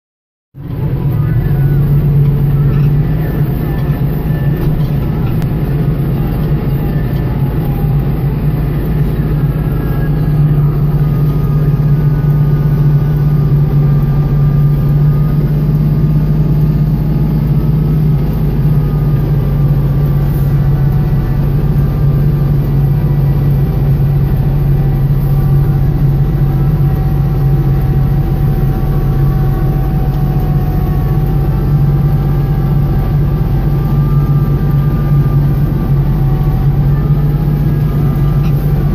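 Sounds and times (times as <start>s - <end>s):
faint wavering whine: 0.6s - 38.9s
tractor diesel engine running: 0.6s - 38.9s.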